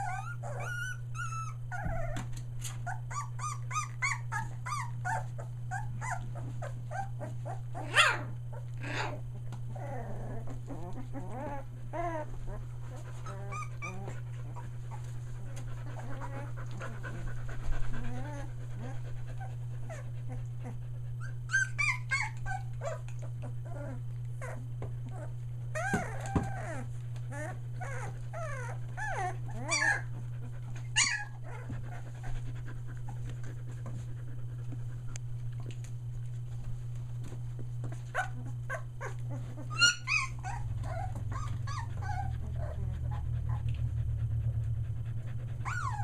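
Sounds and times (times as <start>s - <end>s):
puppies crying: 0.0s - 15.1s, 15.8s - 32.4s, 38.0s - 43.7s, 45.6s - 46.0s
steady low hum: 0.0s - 46.0s.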